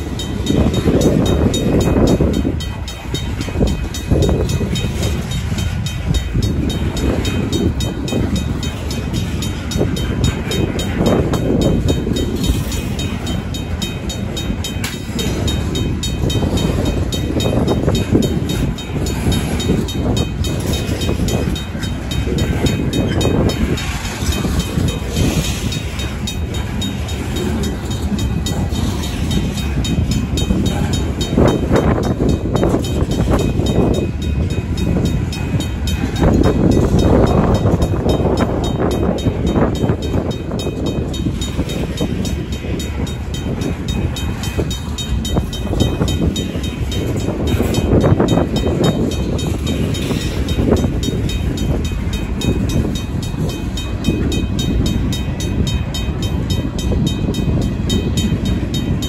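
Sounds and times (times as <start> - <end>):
crossing bell ringing: 0.0 - 59.0
freight train rumbling on rails: 0.0 - 59.0.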